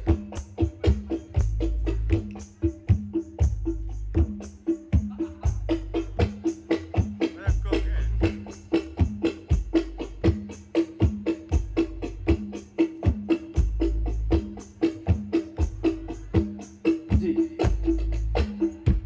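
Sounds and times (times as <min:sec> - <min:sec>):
hand-drum strikes: 0:00.0 - 0:19.0.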